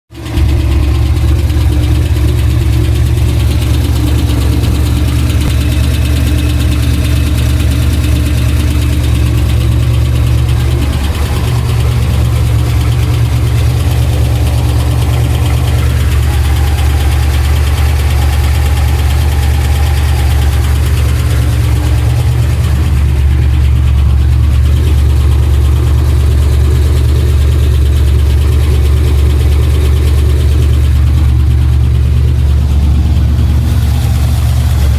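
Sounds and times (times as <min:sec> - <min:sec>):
car engine idling: 0:00.1 - 0:34.9
engine knocking: 0:00.1 - 0:34.9.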